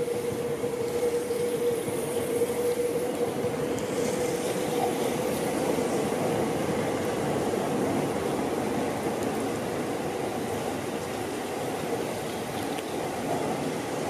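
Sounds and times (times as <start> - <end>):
electric train whining past: 0.0 - 14.0
heavy rain hiss: 0.0 - 14.0.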